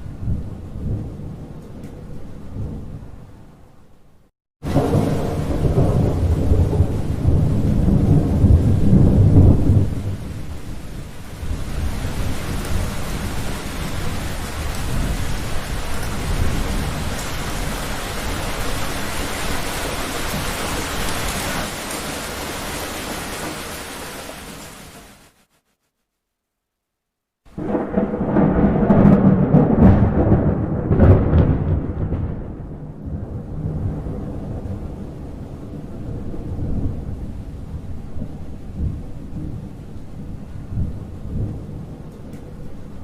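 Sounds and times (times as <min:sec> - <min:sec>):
thunder rolling: 0:04.6 - 0:23.9, 0:27.5 - 0:43.0
heavy rain: 0:04.6 - 0:25.5, 0:27.5 - 0:43.0.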